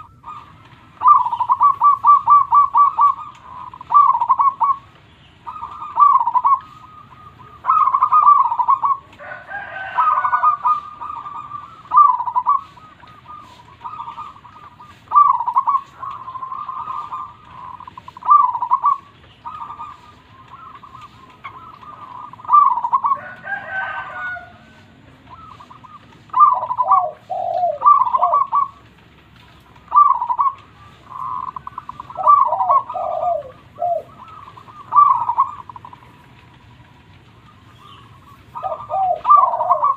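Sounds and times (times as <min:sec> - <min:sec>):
coarse bird call: 0:00.0 - 0:39.9
dove cooing: 0:00.0 - 0:39.9.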